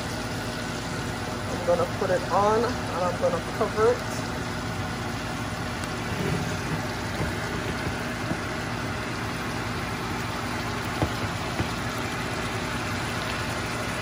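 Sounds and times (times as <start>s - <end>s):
meat searing in sizzling oil: 0.0s - 14.0s
range hood fan hum: 0.0s - 14.0s.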